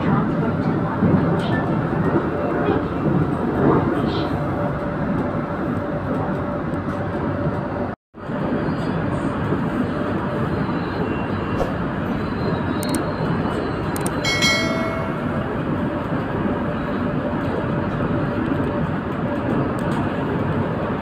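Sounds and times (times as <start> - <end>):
train carriage rumble and hiss: 0.0 - 21.0.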